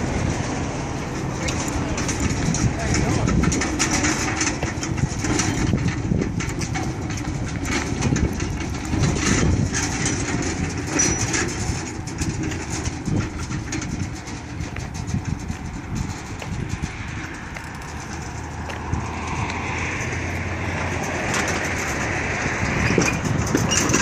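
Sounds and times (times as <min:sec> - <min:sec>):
pedal tractor rolling over asphalt: 0:00.0 - 0:24.0.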